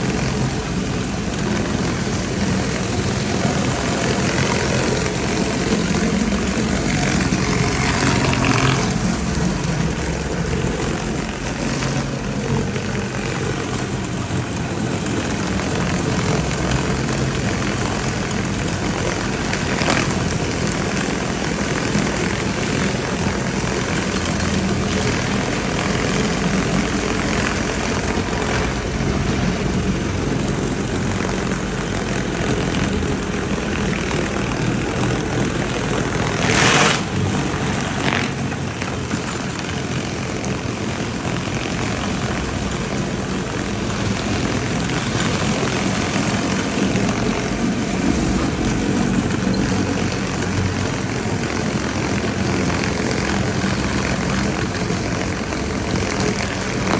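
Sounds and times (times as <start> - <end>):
high-pressure spray on concrete: 0.0 - 56.9
pressure washer engine humming: 0.0 - 56.9.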